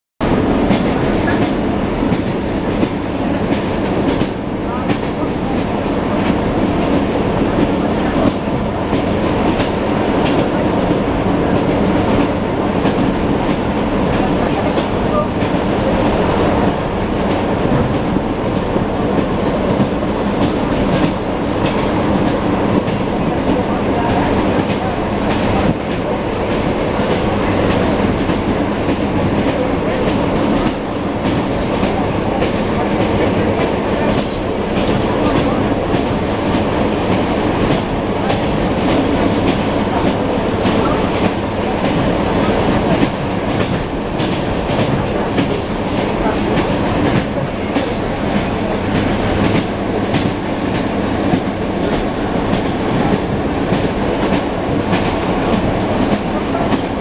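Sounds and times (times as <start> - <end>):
train running rumble: 0.2 - 57.0.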